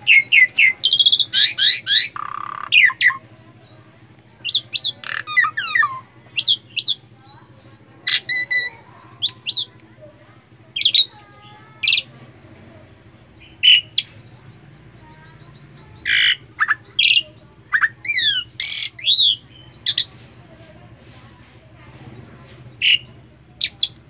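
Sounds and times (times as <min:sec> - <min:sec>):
starling chattering: 0:00.0 - 0:24.0.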